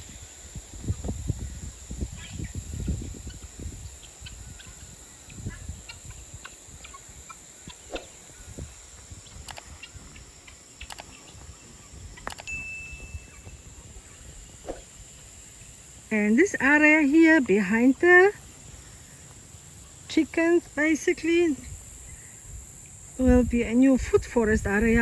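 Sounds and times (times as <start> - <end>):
high-pitched background whine: 0.0 - 25.0.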